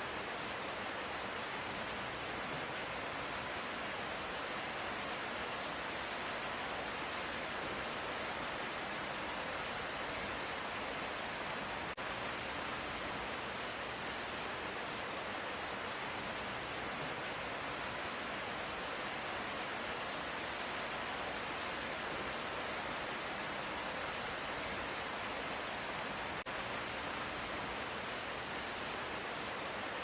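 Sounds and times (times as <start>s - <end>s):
steady light rain: 0.0s - 30.0s.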